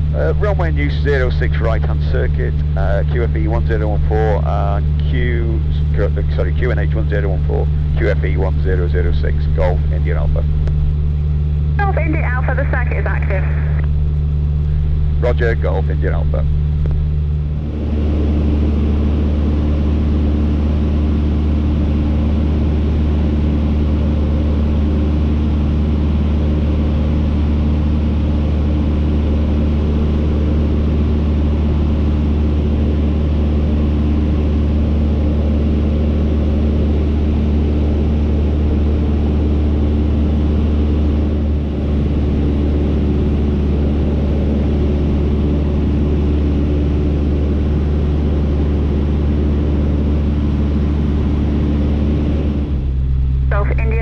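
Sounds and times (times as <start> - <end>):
small plane engine droning: 0.0 - 54.0.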